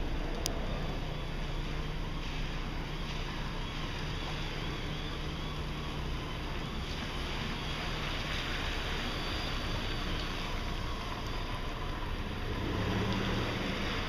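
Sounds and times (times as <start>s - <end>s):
light rain: 0.0s - 14.0s
low hum: 0.0s - 14.0s.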